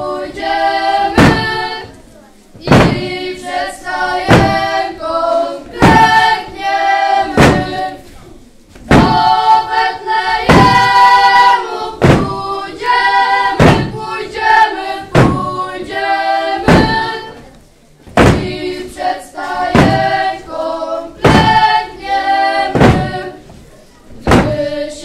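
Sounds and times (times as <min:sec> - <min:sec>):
children singing together: 0:00.0 - 0:08.1, 0:08.9 - 0:17.5, 0:18.2 - 0:25.0
heavy thud on wooden stage: 0:00.4 - 0:02.0, 0:02.6 - 0:08.0, 0:08.8 - 0:19.0, 0:19.6 - 0:20.5, 0:21.2 - 0:24.9.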